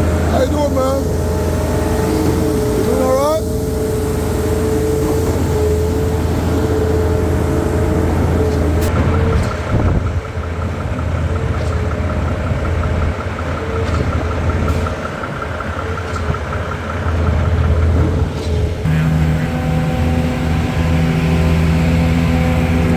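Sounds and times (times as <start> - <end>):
heavy truck engine running: 0.0 - 22.9.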